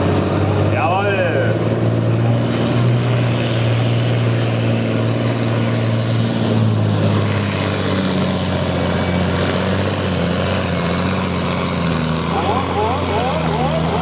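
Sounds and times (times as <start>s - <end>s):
diesel engine at high revs: 0.0s - 14.0s.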